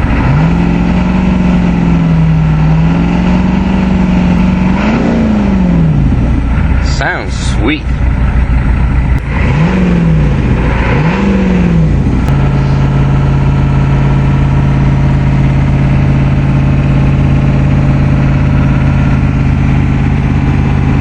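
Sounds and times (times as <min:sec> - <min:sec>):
diesel engine revving and idling: 0:00.0 - 0:21.0.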